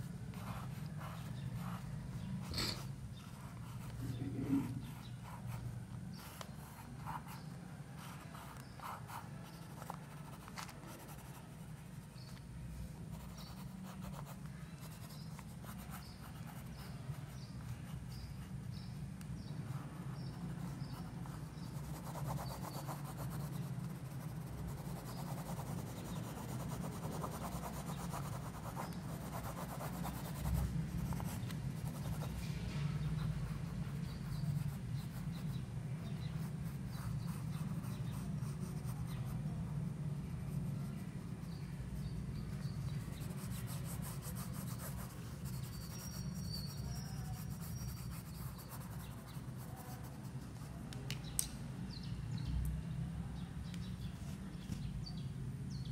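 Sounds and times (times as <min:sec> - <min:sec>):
pencil scratching on paper: 0:00.3 - 0:12.4, 0:13.0 - 0:18.9, 0:19.7 - 0:50.4.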